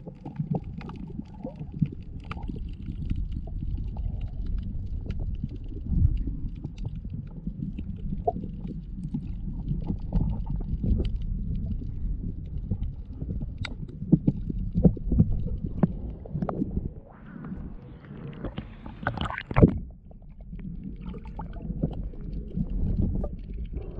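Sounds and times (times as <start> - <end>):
underwater rumble of moving water: 0.0 - 23.9.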